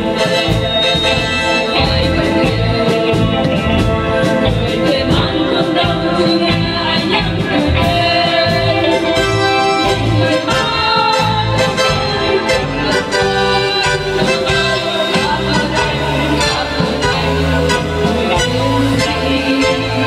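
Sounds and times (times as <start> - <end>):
instrumental accompaniment with beat: 0.0 - 20.0
women singing in chorus: 0.0 - 20.0.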